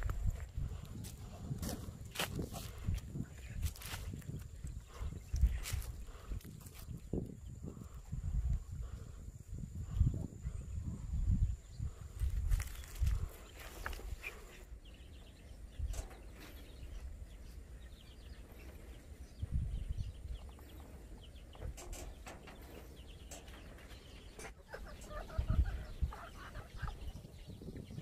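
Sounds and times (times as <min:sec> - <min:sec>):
chickens clucking: 0:00.6 - 0:10.8, 0:11.8 - 0:28.0.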